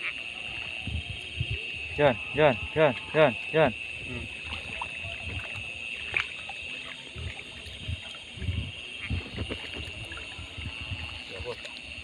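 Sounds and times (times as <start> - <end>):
high-pitched drone: 0.0 - 11.6
wading through shallow water: 0.0 - 12.0.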